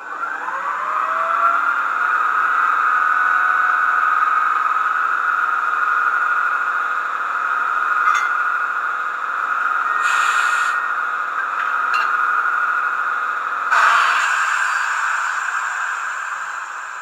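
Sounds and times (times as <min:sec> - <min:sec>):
high-pitched electric locomotive whine: 0:00.0 - 0:17.0.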